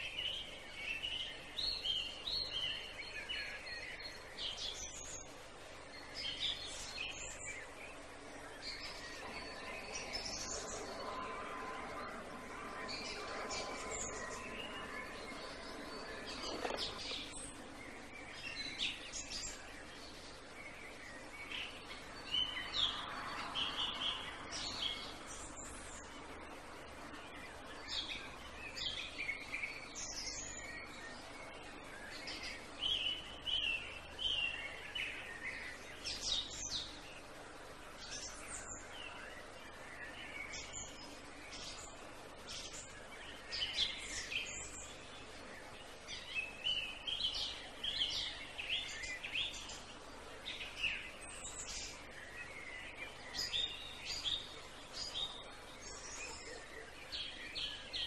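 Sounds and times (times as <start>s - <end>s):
birds chirping and singing: 0.0s - 58.0s
steady background hiss: 0.0s - 58.0s.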